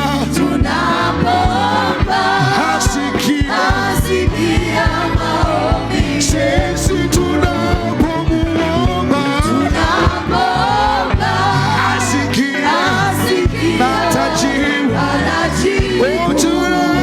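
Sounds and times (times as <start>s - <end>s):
band with bass and drums: 0.0s - 17.0s
singers: 0.0s - 17.0s.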